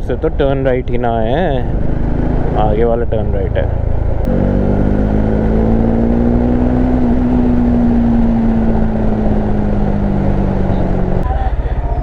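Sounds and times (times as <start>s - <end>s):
wind rumble on microphone: 0.0s - 12.0s
motorcycle engine under throttle: 1.3s - 11.3s.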